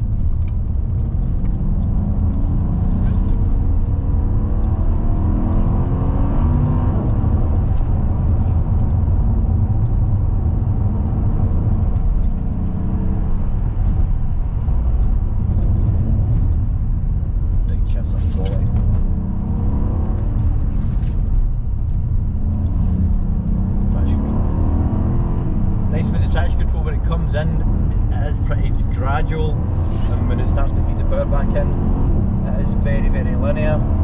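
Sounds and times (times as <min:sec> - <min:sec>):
car engine accelerating: 0:00.0 - 0:34.0
low road rumble: 0:00.0 - 0:34.0.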